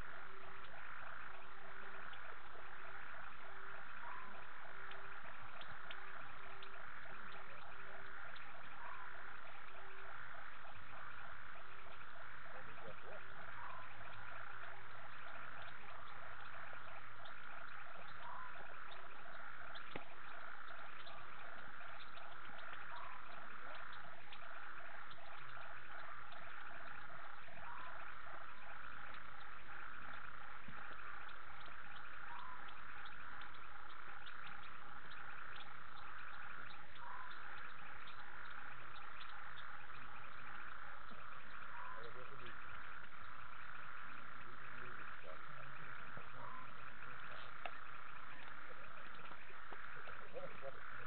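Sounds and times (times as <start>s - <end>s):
high trilling of frogs and insects: 0.0s - 51.0s
pulsing frog call: 0.0s - 51.0s.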